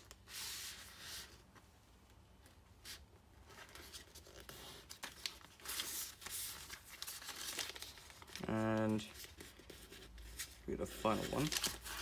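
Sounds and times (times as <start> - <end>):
paper rustling and creasing: 0.0 - 12.0.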